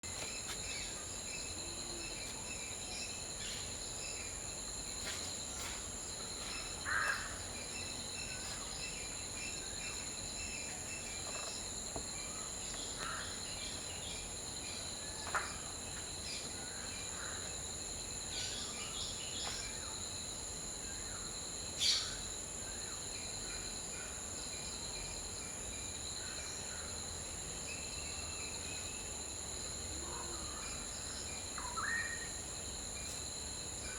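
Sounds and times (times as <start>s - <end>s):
cricket-like trill: 6.3s - 33.9s.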